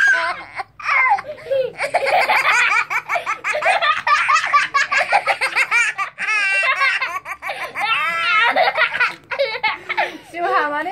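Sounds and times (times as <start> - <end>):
children giggling and laughing: 0.0 - 10.9.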